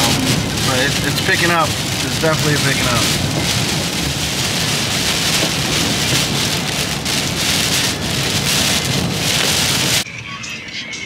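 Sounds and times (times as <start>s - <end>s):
rain hitting car windshield: 0.0s - 10.0s
road noise: 0.0s - 11.0s.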